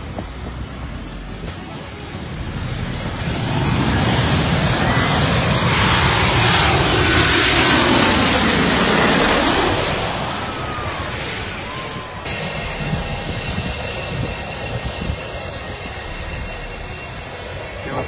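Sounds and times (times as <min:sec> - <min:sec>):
jet airliner roaring overhead: 0:00.0 - 0:18.0.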